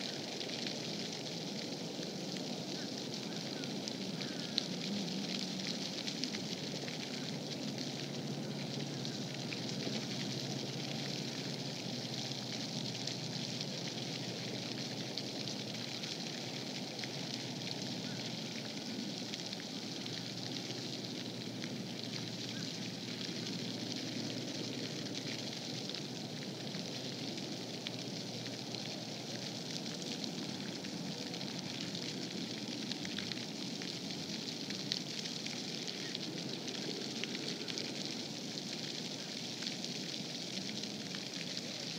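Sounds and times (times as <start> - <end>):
outdoor background hiss: 0.0 - 41.9.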